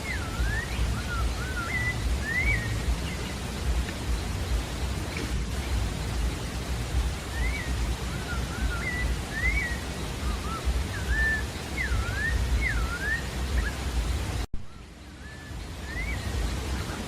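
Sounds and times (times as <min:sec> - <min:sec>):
background hiss: 0:00.0 - 0:17.0
thrush whistling song: 0:00.0 - 0:17.0.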